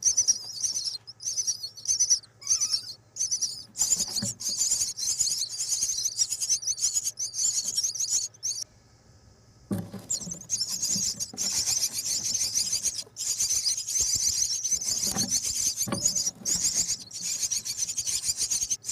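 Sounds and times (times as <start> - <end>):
nestling birds chattering: 0.0 - 8.6, 9.5 - 18.9.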